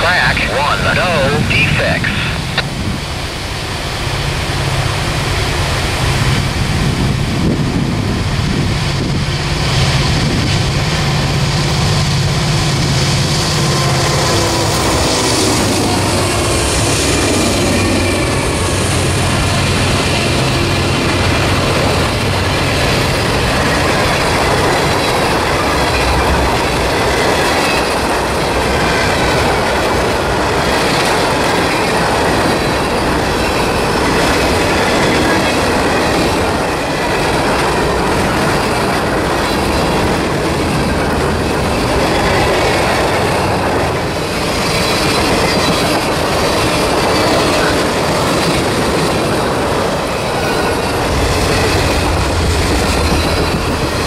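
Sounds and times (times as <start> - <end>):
train wheels clacking on rails: 4.1 - 54.0.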